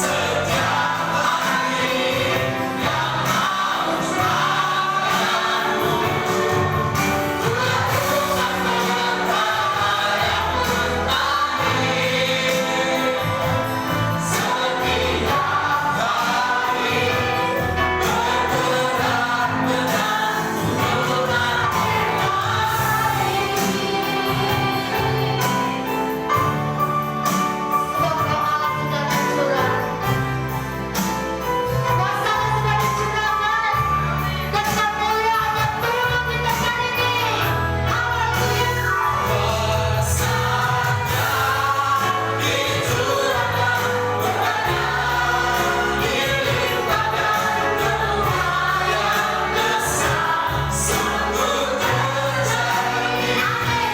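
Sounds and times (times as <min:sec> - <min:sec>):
band with bass and drums: 0:00.0 - 0:53.9
voices singing together: 0:00.0 - 0:53.9.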